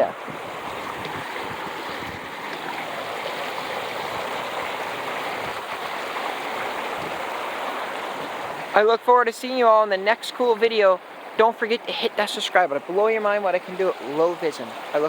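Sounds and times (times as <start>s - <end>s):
water rushing over small waterfalls: 0.0s - 15.0s.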